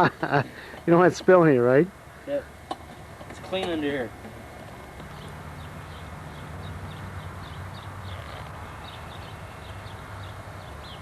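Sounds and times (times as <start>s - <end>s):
steady low hum: 0.0s - 11.0s
small birds chirping: 2.1s - 11.0s.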